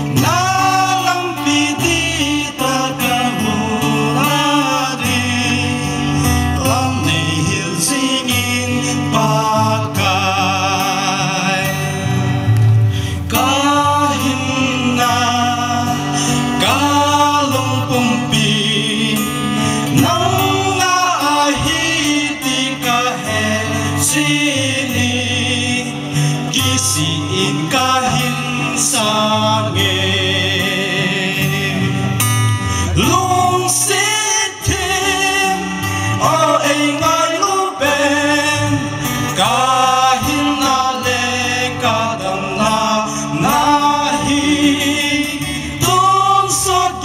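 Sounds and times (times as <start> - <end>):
man singing gospel song: 0.0 - 12.2, 13.2 - 32.2, 32.8 - 47.0
strummed acoustic guitar: 0.0 - 47.0.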